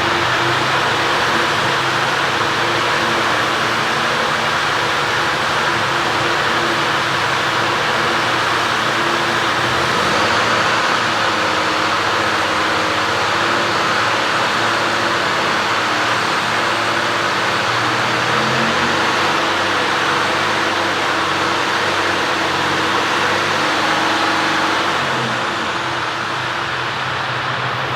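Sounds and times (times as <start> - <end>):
diesel lorry engine running: 0.0 - 27.9.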